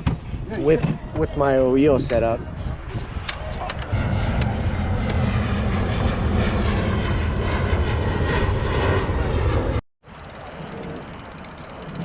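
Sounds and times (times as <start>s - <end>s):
low-pitched engine drone: 0.0s - 12.0s.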